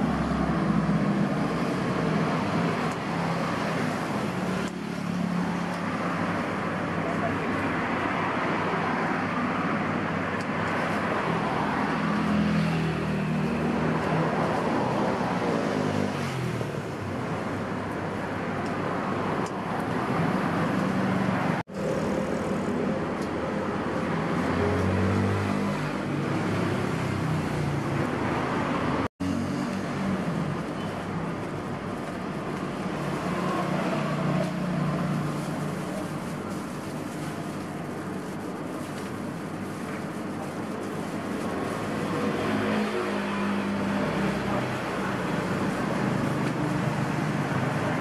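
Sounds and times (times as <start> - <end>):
road traffic rumble and hiss: 0.0 - 48.0.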